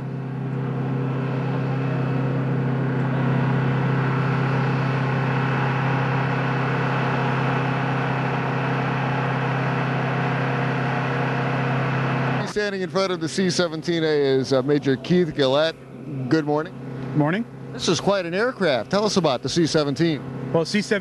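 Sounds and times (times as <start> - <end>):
machine drone: 0.0 - 21.0.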